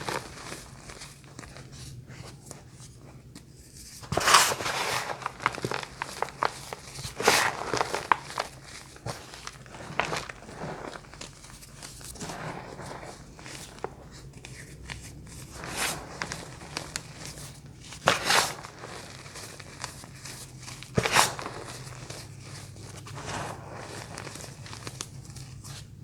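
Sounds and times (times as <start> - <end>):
crunchy bars crinkling and crunching: 0.0 - 3.2, 4.0 - 26.0.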